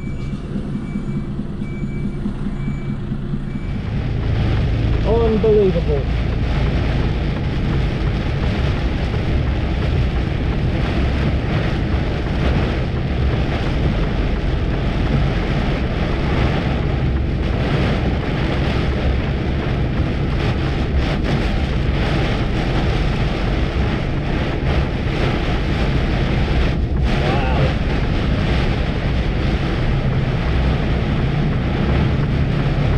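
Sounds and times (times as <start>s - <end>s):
heavy rain and road spray: 0.0s - 32.9s
lorry engine running: 0.0s - 32.9s.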